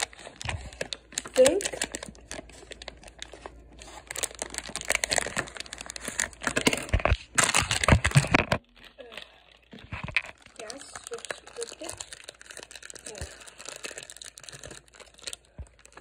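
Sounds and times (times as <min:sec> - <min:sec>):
plastic packaging crackling: 0:00.0 - 0:16.0.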